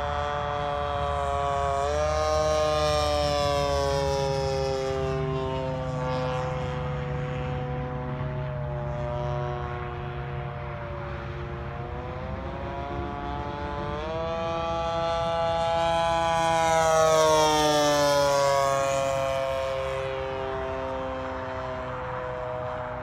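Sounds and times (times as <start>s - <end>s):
model plane engine and propeller: 0.0s - 23.0s.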